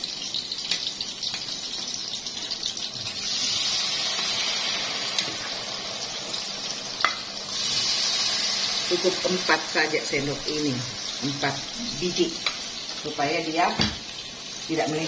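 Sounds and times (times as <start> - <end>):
batter deep-frying in hot oil: 0.0 - 15.0.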